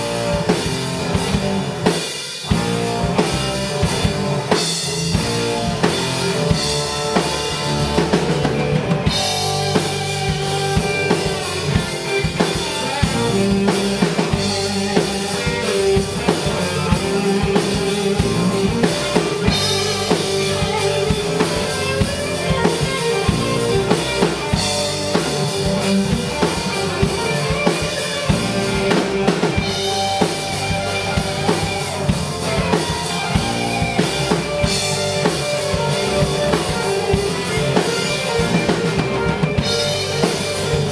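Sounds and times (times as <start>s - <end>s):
drum kit steady beat: 0.0s - 40.9s
electric bass: 0.0s - 40.9s
electric guitars: 0.0s - 40.9s.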